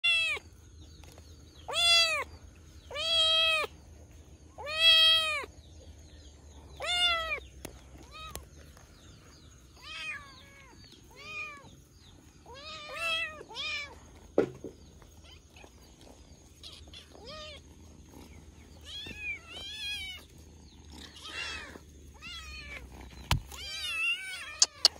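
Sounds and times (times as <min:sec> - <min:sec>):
kittens meowing: 0:00.0 - 0:00.5, 0:01.6 - 0:05.6, 0:06.6 - 0:14.3, 0:15.1 - 0:24.9.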